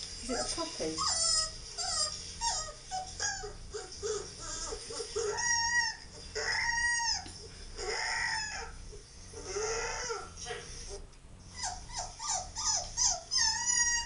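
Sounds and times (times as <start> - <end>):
puppy whining and squealing: 0.3 - 14.0
puppy drawn-out cries: 1.0 - 10.4, 11.5 - 14.0.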